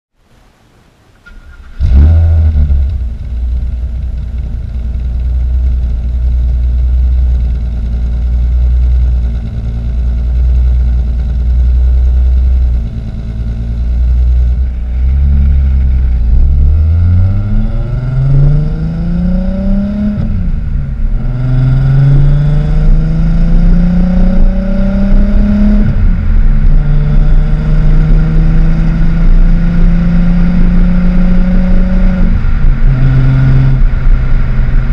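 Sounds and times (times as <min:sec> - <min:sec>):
car engine starting and revving: 0:01.2 - 0:34.9.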